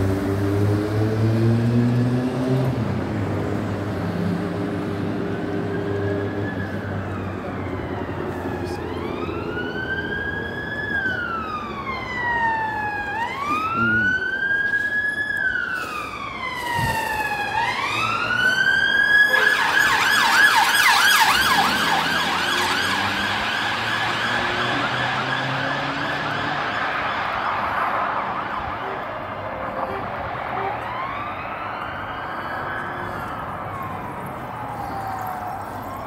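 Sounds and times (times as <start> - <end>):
emergency vehicle siren: 0.0 - 36.0.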